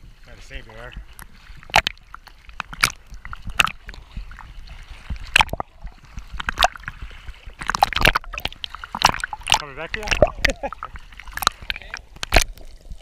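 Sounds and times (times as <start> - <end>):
small waves slapping: 0.0 - 13.0
water sloshing and lapping: 0.0 - 13.0.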